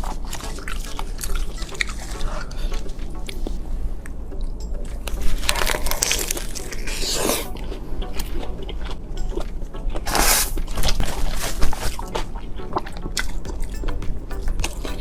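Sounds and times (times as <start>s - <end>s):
person chewing with crunching: 0.0s - 3.6s, 4.4s - 15.0s.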